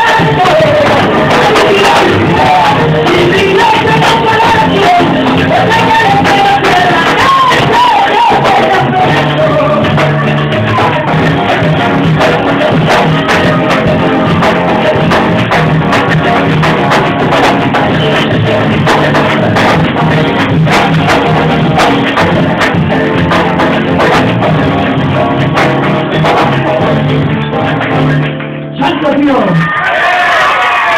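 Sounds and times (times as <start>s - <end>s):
acoustic guitar: 0.0s - 30.9s
drum kit beat: 0.0s - 30.9s.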